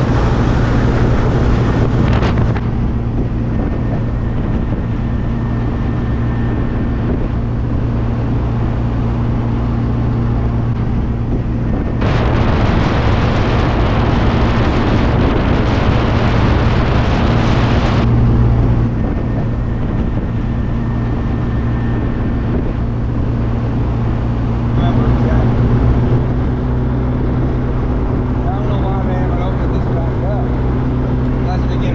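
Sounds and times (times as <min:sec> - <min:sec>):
car engine droning: 0:00.0 - 0:31.9
road and wind noise: 0:00.0 - 0:31.9.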